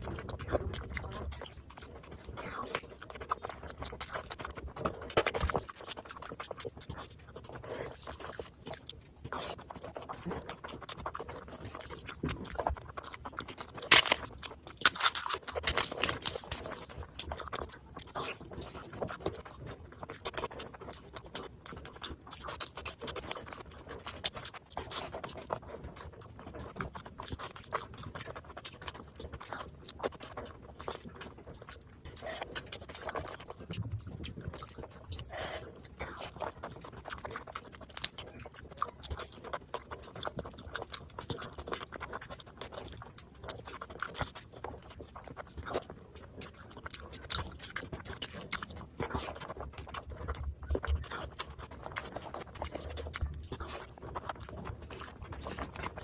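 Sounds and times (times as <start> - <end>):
wet chewing and lip smacking: 0.0 - 56.0.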